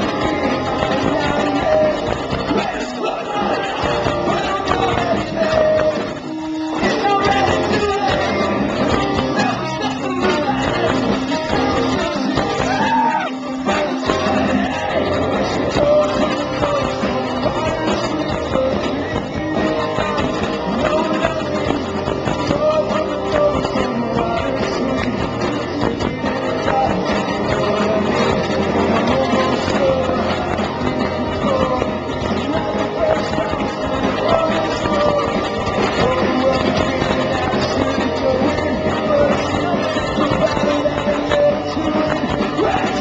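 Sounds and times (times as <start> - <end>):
bass guitar: 0.0 - 43.0
distorted electric guitars: 0.0 - 43.0
drums: 0.0 - 43.0
man singing: 0.0 - 43.0.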